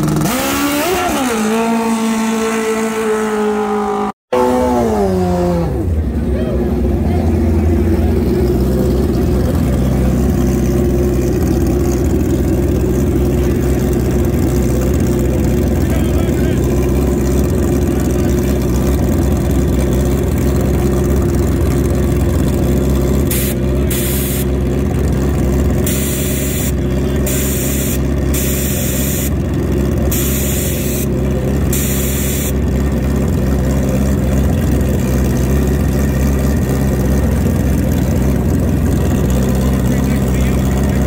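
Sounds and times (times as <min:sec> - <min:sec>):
engine idling: 0:05.8 - 0:41.0.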